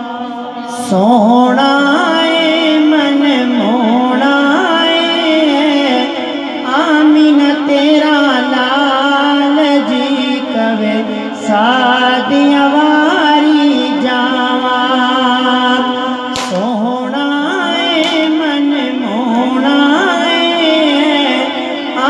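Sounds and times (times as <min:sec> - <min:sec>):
man singing melismatically: 0:00.0 - 0:22.0.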